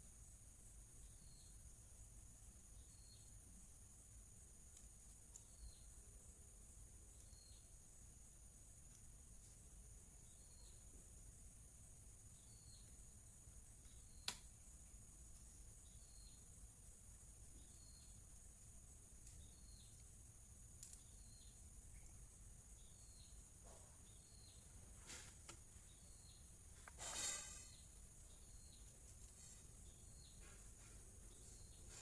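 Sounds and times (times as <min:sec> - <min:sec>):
faint high hiss: 0:02.7 - 0:32.0.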